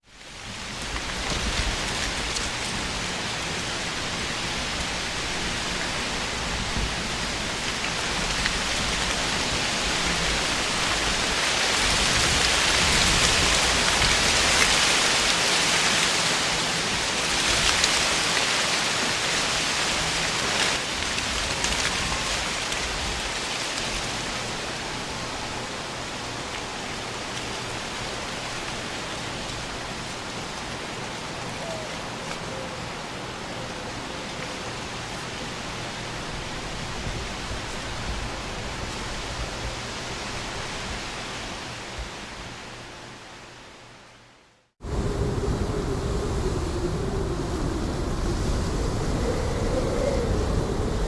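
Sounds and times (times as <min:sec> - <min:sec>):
wind rustling tree leaves: 0:00.0 - 0:51.0
wind rumble on microphone: 0:00.1 - 0:42.4, 0:44.8 - 0:51.0.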